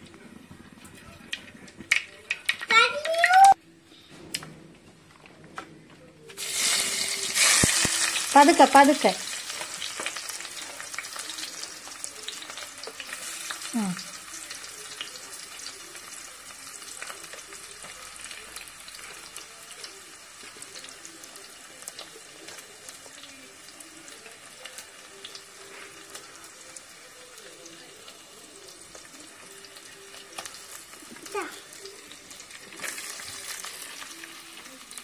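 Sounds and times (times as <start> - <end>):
food sizzling in hot oil: 6.4 - 35.0.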